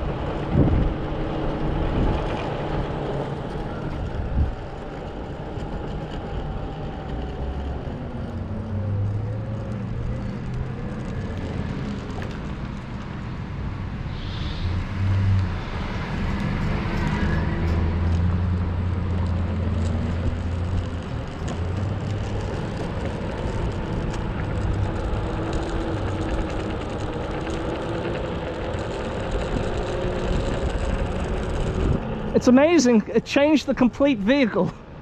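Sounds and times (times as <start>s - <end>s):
tyres rumbling on asphalt: 0.0s - 35.0s.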